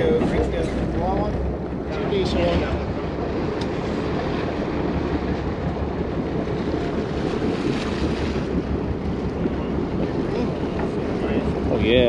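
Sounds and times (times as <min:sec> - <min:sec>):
water washing along a boat: 0:00.0 - 0:12.0
wind on the microphone: 0:00.0 - 0:12.0.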